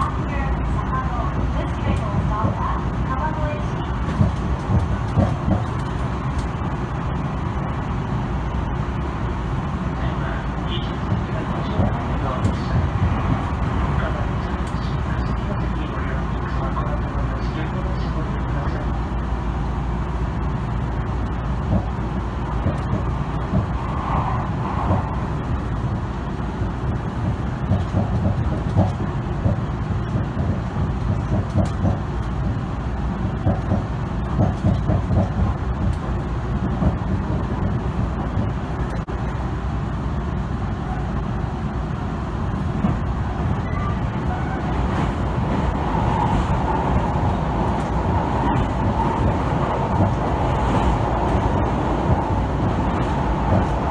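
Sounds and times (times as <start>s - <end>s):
train clatter: 0.0s - 7.0s, 10.8s - 18.3s, 20.7s - 39.4s, 42.5s - 53.9s
train wheels rumbling on rail: 0.0s - 53.9s.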